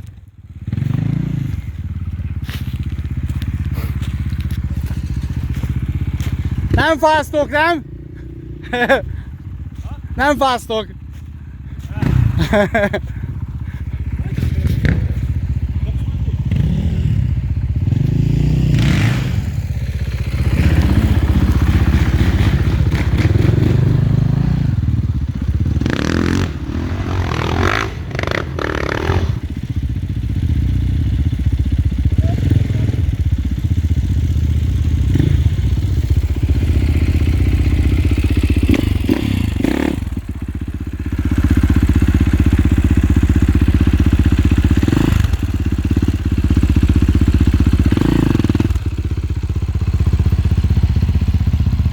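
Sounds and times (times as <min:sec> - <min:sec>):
dirt bike engine revving: 0:00.4 - 0:10.9, 0:11.7 - 0:51.9.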